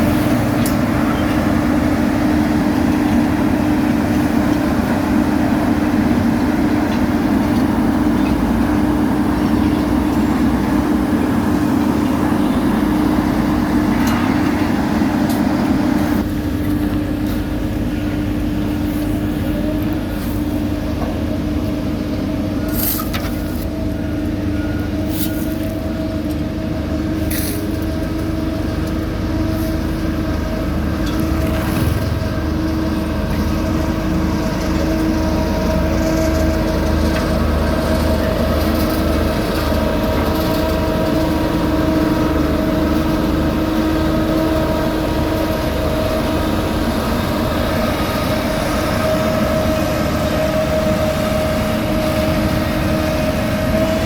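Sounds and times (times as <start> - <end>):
constant machine whine: 0.0 - 54.0
diesel engine rumbling: 0.0 - 54.0.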